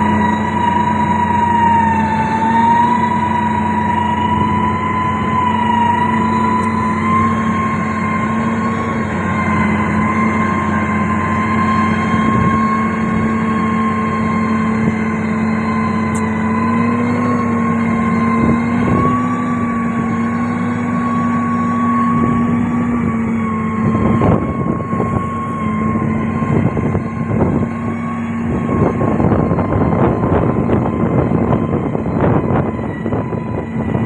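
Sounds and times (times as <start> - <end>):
diesel engine droning with whine: 0.0 - 34.0.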